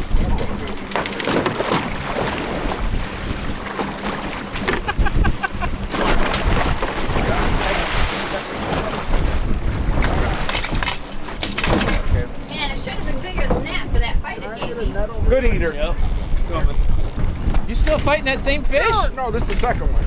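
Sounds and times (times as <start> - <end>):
boat engine rumble: 0.0 - 20.0
water moving past hull: 0.0 - 20.0
wind buffeting microphone: 0.0 - 20.0.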